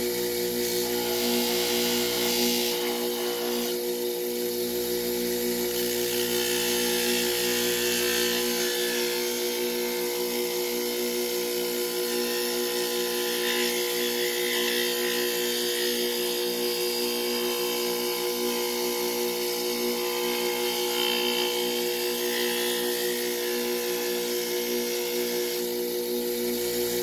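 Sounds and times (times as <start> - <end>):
electric motor humming: 0.0 - 27.0.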